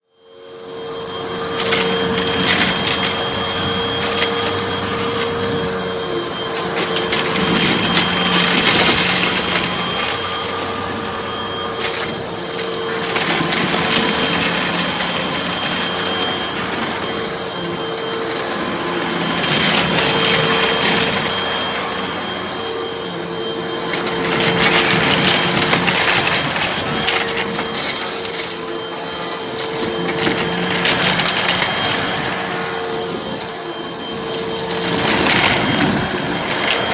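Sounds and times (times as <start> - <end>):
vacuum cleaner running: 0.0 - 36.9
debris crackling in vacuum: 1.5 - 36.9.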